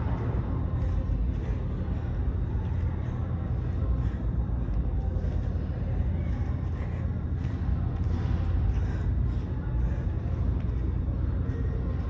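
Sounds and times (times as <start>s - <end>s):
person breathing heavily: 0.0s - 12.0s
steady low rumble: 0.0s - 12.0s.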